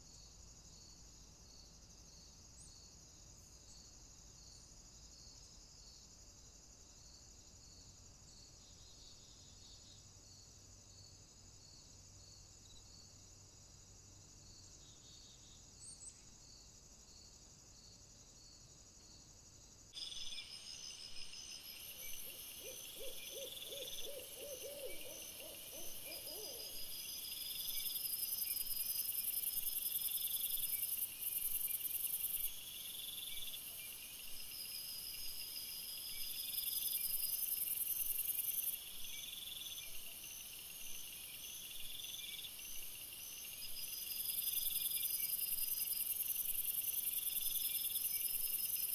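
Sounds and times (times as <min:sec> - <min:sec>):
night insects chirping: 0:00.0 - 0:48.9.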